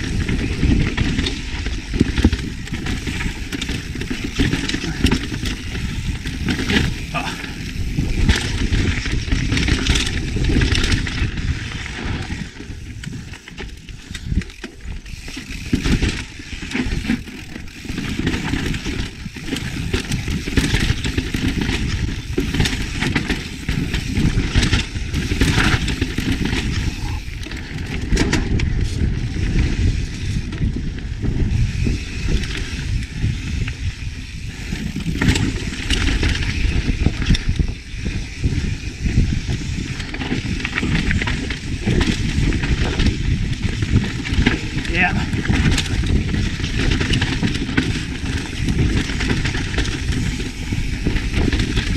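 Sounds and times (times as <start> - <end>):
bike knocks and rattles: 0.0 - 51.9
bike tyres rolling over rock: 0.0 - 51.9
wind on microphone: 0.0 - 51.9.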